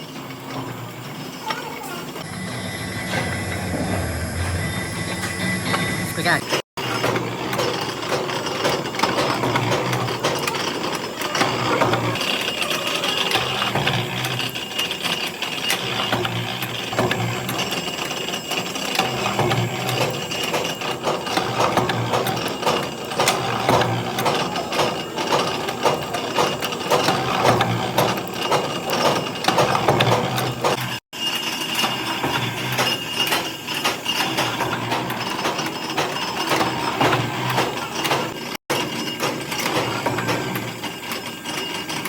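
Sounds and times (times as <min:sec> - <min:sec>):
machinery clattering with rapid clicks: 0:05.2 - 0:42.0.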